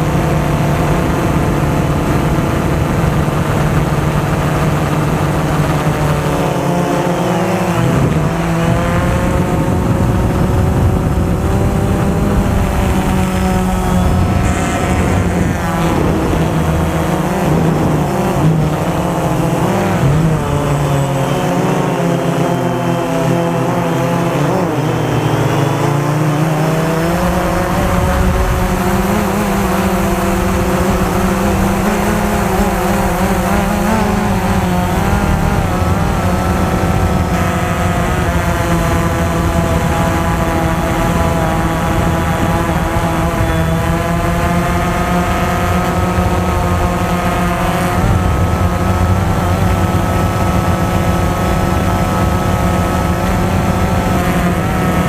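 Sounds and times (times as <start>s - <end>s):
drone propellers whining: 0.0s - 55.0s
wind noise on microphone: 0.0s - 55.0s.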